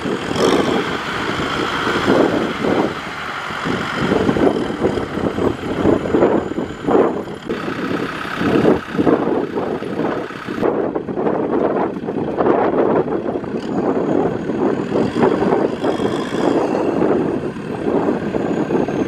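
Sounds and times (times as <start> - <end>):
tyres churning through mud: 0.0 - 10.7, 13.2 - 19.0
tractor diesel engine under load: 0.0 - 19.0.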